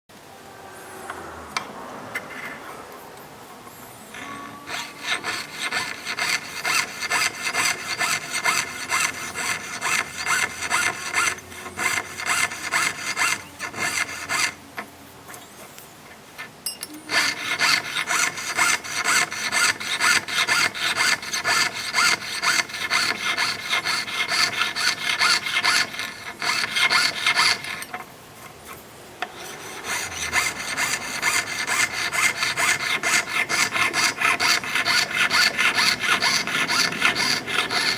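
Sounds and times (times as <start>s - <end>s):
fretsaw cutting metal sheet: 4.0s - 14.9s, 17.0s - 28.1s, 28.7s - 37.9s.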